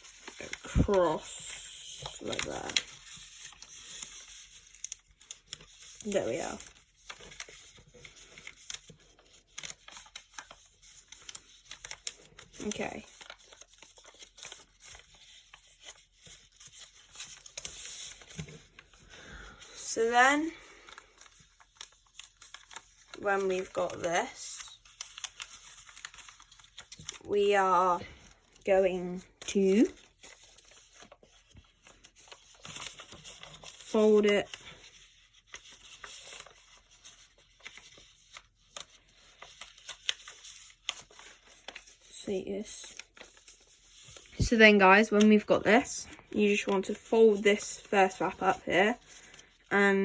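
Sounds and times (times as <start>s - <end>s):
paper rustling and crinkling: 0.0s - 50.0s.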